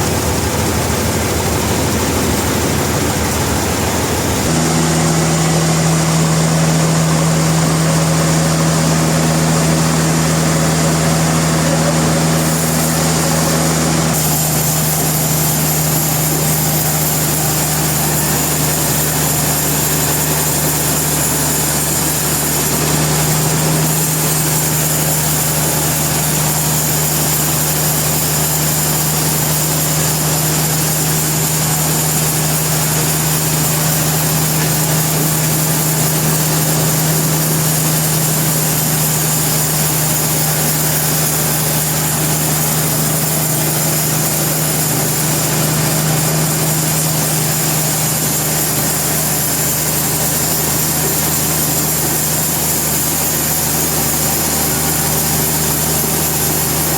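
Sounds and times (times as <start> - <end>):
sawmill machinery humming and whining: 0.0 - 56.9.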